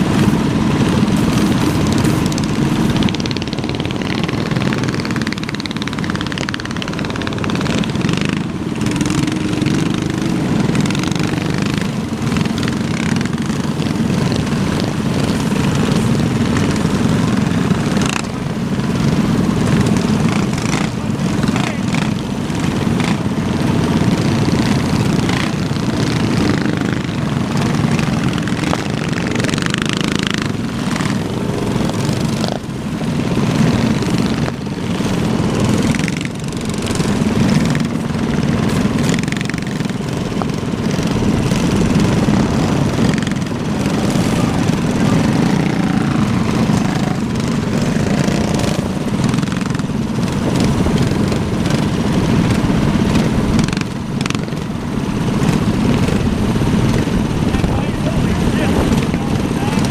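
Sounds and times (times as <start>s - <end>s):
minibike engines revving: 0.0s - 59.9s.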